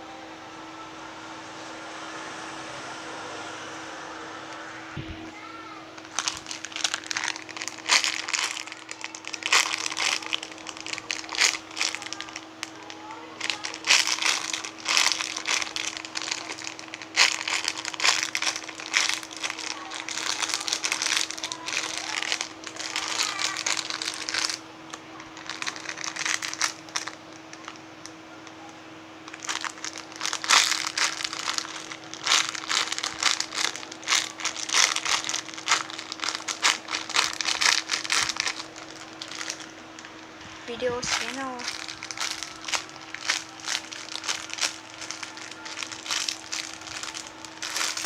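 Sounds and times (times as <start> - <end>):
faint steady hum: 0.0 - 48.0
plastic wrapping crinkling: 6.0 - 27.8, 29.2 - 48.0.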